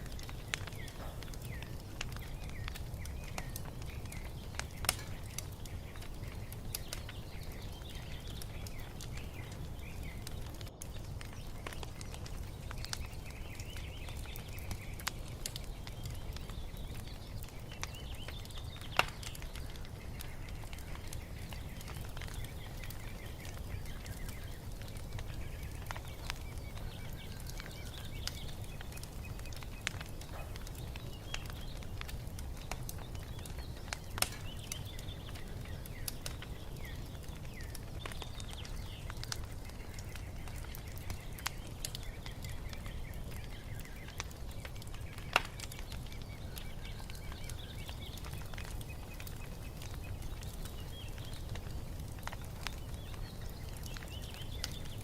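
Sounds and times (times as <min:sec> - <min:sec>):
birds chirping faintly: 0:00.0 - 0:55.0
wood fire crackling and popping: 0:00.0 - 0:55.0.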